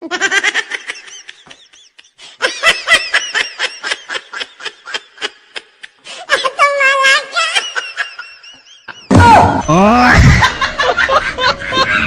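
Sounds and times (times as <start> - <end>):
person laughing: 0.0 - 6.5, 7.4 - 12.0.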